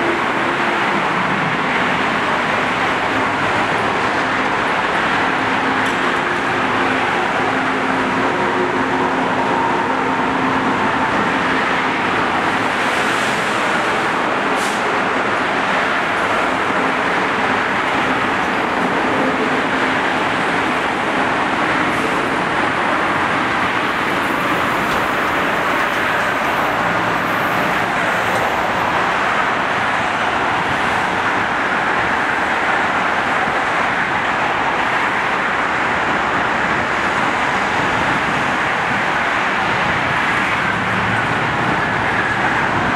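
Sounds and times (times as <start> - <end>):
heavy highway traffic: 0.0 - 42.9
train running on rails: 0.0 - 42.9.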